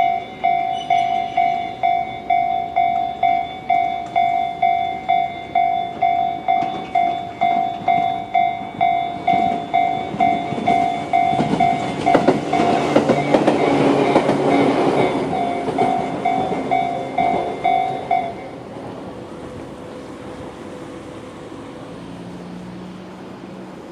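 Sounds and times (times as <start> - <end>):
wheels clattering over rail joints: 0.0 - 20.1
level crossing warning bells: 0.0 - 22.0
electric train passing: 0.0 - 23.9.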